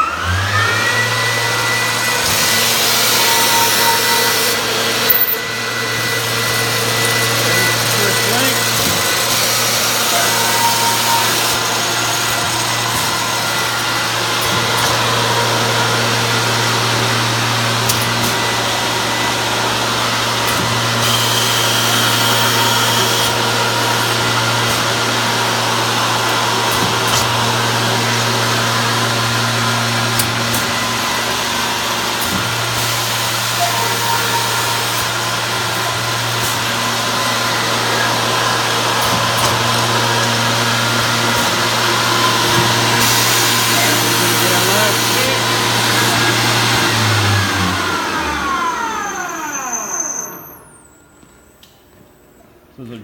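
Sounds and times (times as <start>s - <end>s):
cold saw cutting metal: 0.0s - 50.7s.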